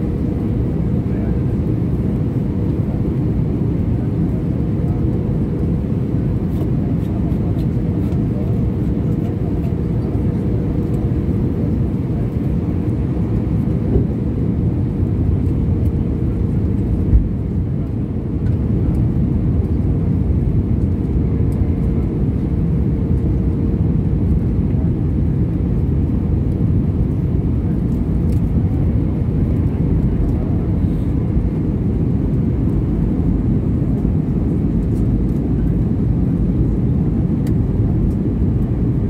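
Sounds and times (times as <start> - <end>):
aircraft cabin engine rumble: 0.0 - 39.0.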